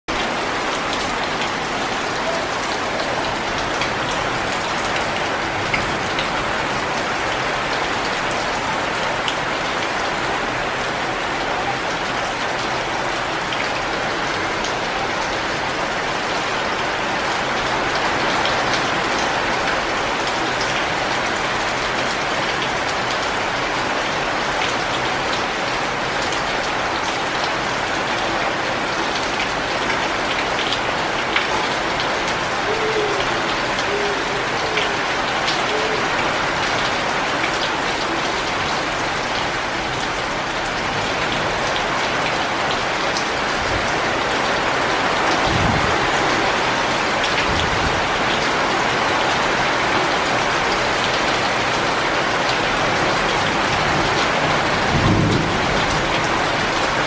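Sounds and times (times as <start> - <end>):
heavy rain on flooded concrete: 0.0 - 57.0.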